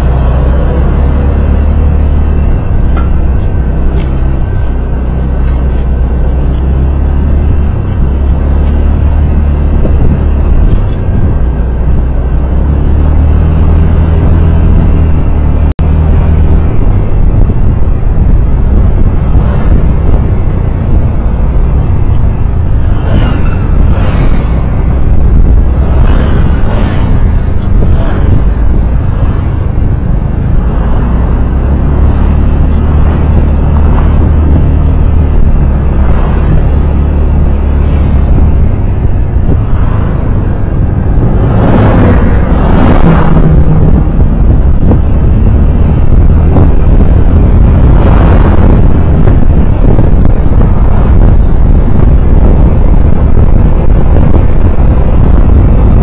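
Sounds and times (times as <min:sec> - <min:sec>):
vehicle road rumble: 0:00.0 - 0:56.0
wind noise: 0:00.0 - 0:56.0.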